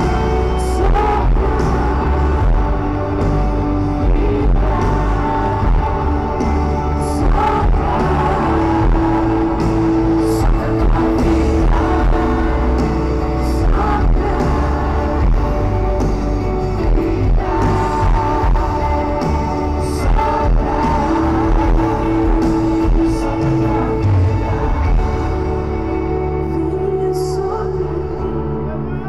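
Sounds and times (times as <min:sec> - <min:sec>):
live band playing worship song: 0:00.0 - 0:29.0
person singing: 0:00.0 - 0:29.0.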